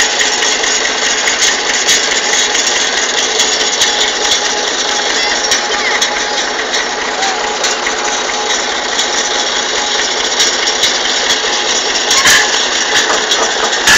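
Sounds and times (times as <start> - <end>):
loader clicks and rattles: 0.0 - 13.9
tractor engine running: 0.0 - 13.9.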